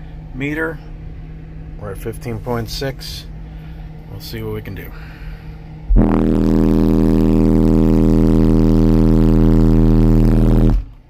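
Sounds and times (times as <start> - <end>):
loud subwoofer test tone drone: 0.0 - 11.0.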